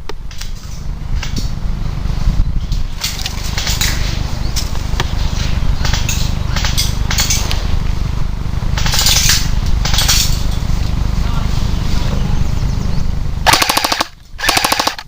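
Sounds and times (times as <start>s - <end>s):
wind rumble on microphone: 0.0s - 13.6s.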